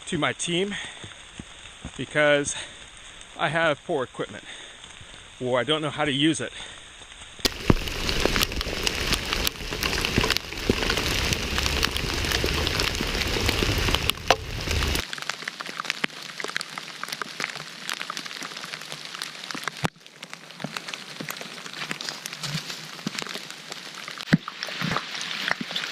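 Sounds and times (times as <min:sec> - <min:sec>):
raindrops hitting close: 0:00.0 - 0:25.9
rain falling: 0:00.1 - 0:25.9.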